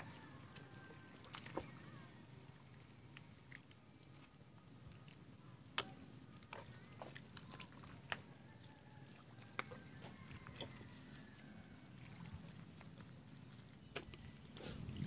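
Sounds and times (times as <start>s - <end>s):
low steady hum: 0.0s - 15.0s
wet squelches in mud: 0.0s - 15.0s.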